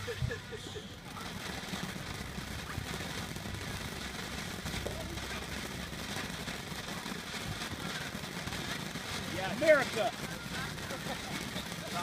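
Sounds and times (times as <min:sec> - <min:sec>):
faint crackles: 0:00.0 - 0:12.0
firework fountain hissing: 0:00.0 - 0:12.0.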